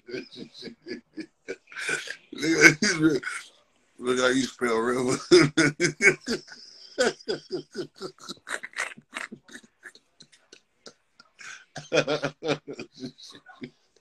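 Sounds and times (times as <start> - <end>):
person talking: 0.0 - 10.6, 11.2 - 13.7.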